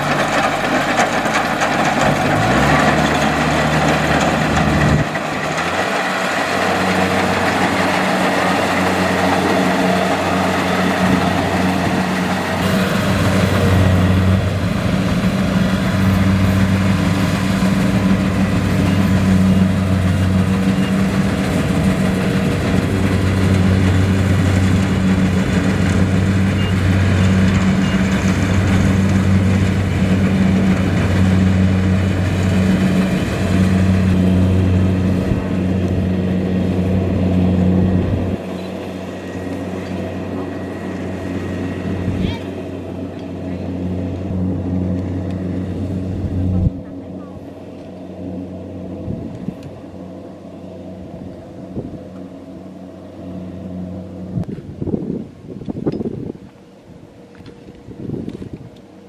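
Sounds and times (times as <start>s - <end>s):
diesel engine hum: 0.0s - 59.0s
harvester mechanical noise: 0.0s - 59.0s.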